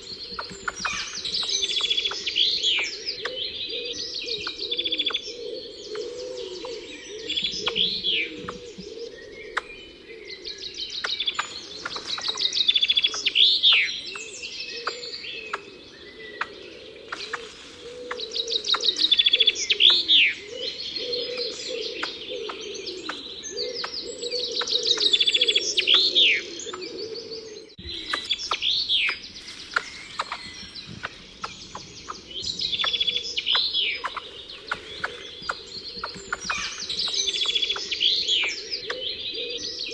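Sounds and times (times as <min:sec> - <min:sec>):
background bird chorus: 0:00.0 - 0:39.9.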